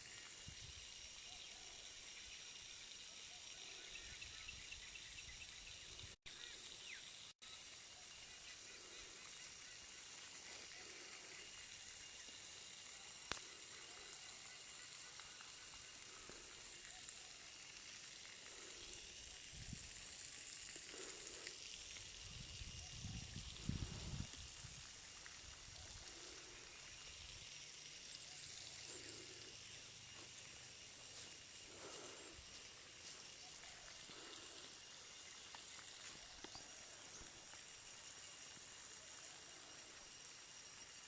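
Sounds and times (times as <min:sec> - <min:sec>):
faint outdoor hiss: 0:00.0 - 0:41.0.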